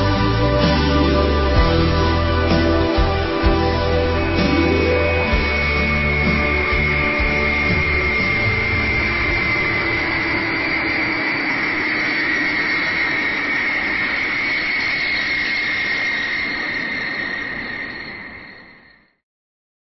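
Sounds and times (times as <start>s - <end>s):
jet engines rushing and whining: 0.0s - 19.2s.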